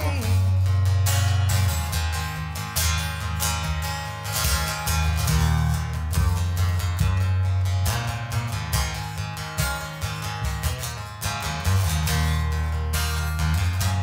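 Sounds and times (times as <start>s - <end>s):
bass line: 0.0s - 14.0s
strummed acoustic guitar: 0.0s - 14.0s.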